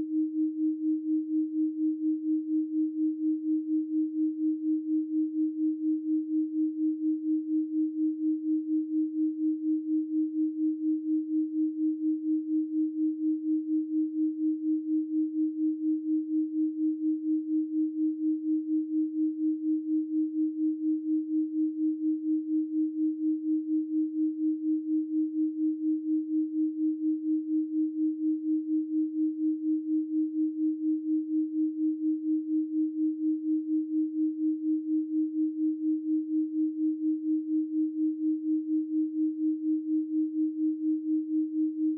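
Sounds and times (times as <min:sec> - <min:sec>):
pulsing sine tone: 0:00.0 - 0:41.9.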